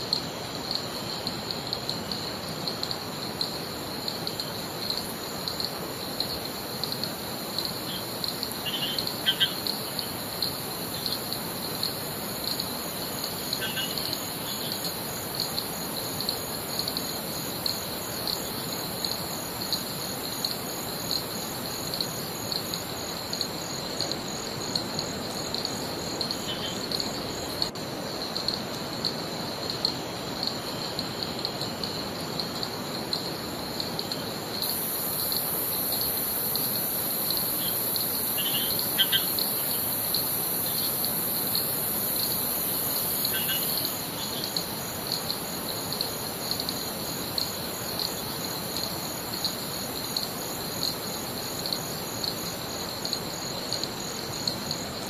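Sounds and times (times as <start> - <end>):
high insect hiss: 0.0 - 55.0
insects buzzing: 0.0 - 55.0.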